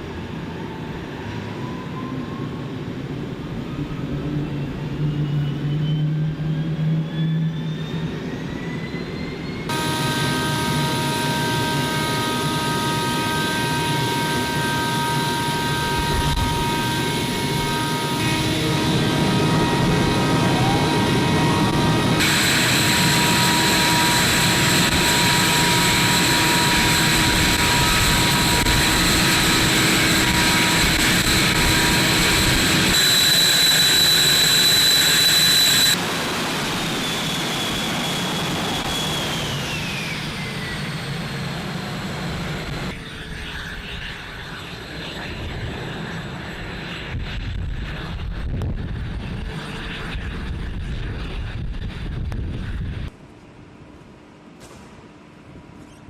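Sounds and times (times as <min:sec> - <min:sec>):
fighter jet engines rumbling: 0:00.0 - 0:55.8
high jet engine whine: 0:00.0 - 0:56.0.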